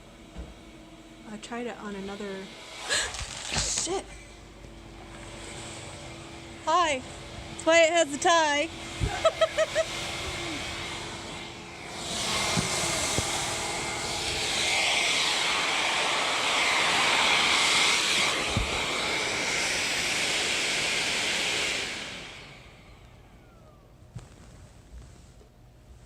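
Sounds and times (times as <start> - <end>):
suction fan whining: 0.0 - 26.0.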